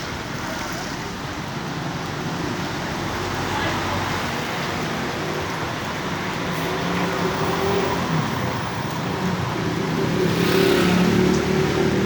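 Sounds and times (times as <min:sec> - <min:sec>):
traffic hiss: 0:00.0 - 0:12.0
vehicles passing: 0:00.0 - 0:12.0.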